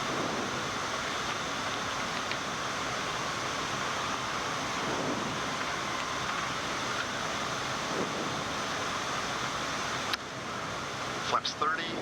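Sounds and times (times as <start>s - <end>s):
rushing airflow noise: 0.0s - 12.0s.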